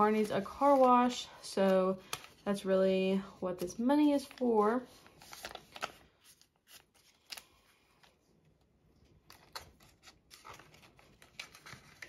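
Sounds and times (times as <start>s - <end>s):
paper and plastic rustling: 0.0s - 8.2s, 9.1s - 12.0s.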